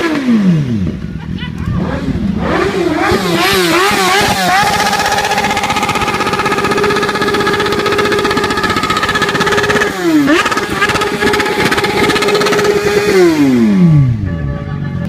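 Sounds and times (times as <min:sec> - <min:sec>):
motorcycle engine at high revs: 0:00.0 - 0:01.1, 0:01.8 - 0:14.3.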